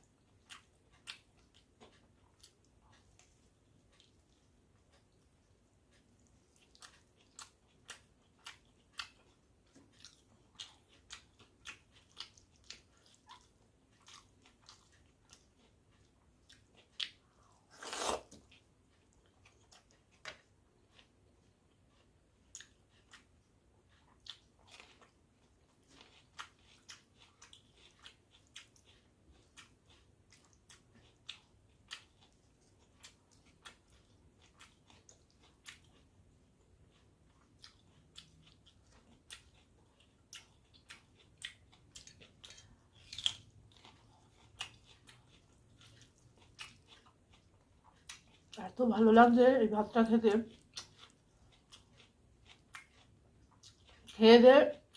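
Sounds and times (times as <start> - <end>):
chewing and lip smacks: 0.0 - 48.7, 50.5 - 54.2.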